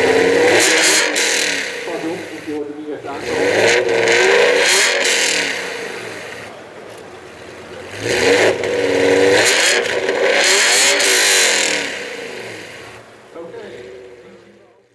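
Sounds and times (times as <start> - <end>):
car engine revving hard: 0.0 - 14.6.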